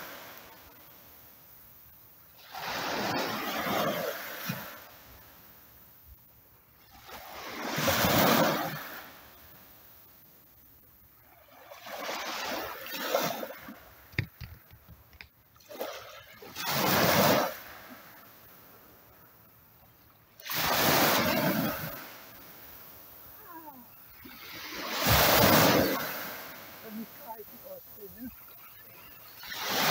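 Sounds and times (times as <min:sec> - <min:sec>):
small waves breaking on shore: 0:00.0 - 0:29.9.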